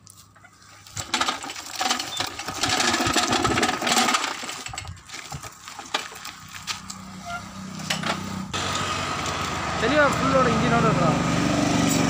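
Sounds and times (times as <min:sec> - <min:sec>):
metal cart rattling over gravel: 0:00.0 - 0:11.1.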